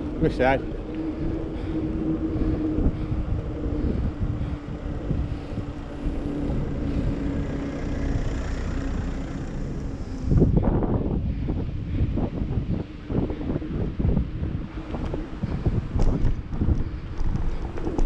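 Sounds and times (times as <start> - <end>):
bike tyre rumble on tarmac: 0.0 - 18.0
steady hum: 0.0 - 18.0
wind rushing over microphone: 0.0 - 18.0.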